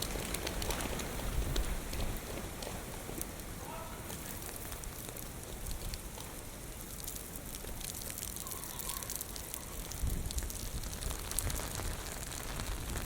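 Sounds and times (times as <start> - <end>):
low wind rumble: 0.0 - 7.7, 9.2 - 13.0
heavy rain patter: 0.0 - 13.0.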